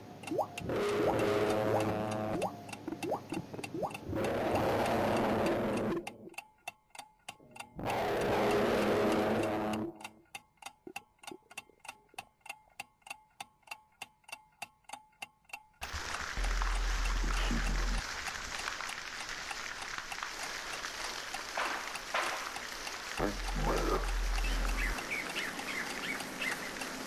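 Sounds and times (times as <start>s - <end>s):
clock ticking quickly: 0.0s - 18.4s, 19.2s - 27.0s.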